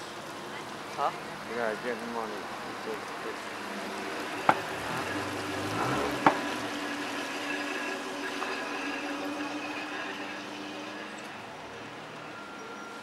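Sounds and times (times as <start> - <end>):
traffic hiss and hum: 0.0 - 13.0.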